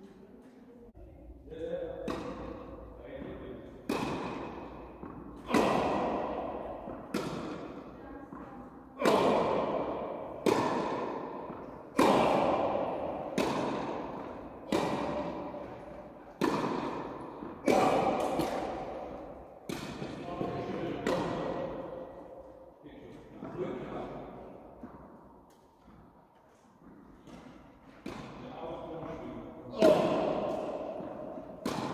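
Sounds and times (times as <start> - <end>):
racket hitting tennis balls: 2.0 - 31.9.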